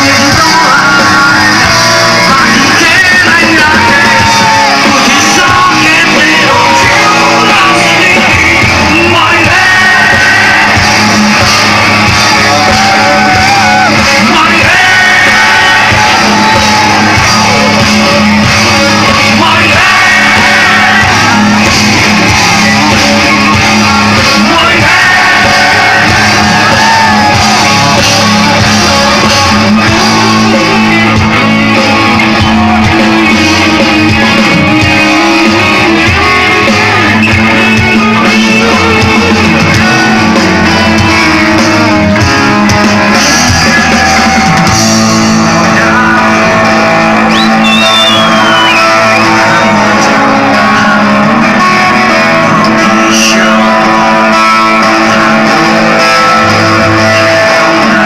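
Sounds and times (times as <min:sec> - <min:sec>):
live rock band with singing: 0:00.0 - 0:58.0.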